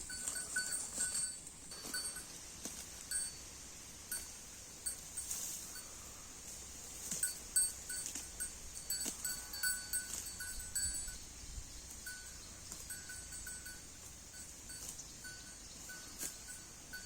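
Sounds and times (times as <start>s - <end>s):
cow bell clinking: 0.0s - 2.4s, 3.0s - 3.5s, 4.1s - 6.1s, 7.0s - 11.3s, 12.0s - 17.0s
faint high hiss: 0.0s - 17.0s.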